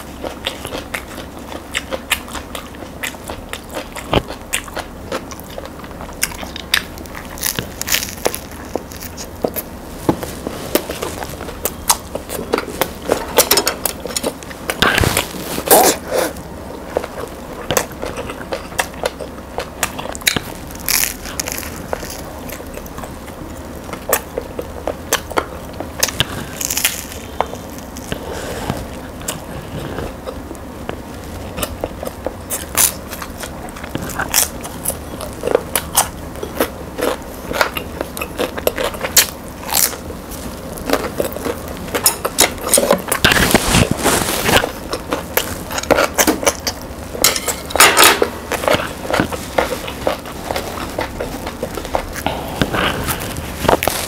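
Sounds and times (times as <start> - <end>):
crunching and chewing bread crust: 0.0 - 54.0.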